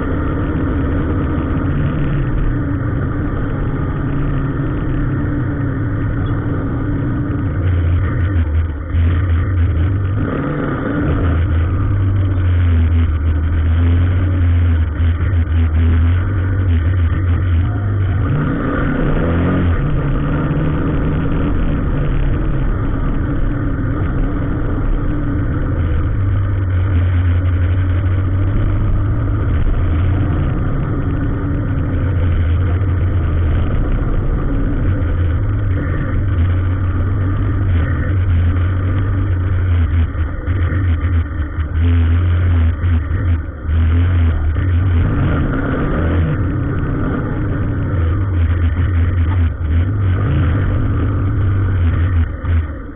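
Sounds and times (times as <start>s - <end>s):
engine revving: 0.0s - 52.9s
road noise: 0.0s - 52.9s
vehicle engine drone: 0.0s - 52.9s.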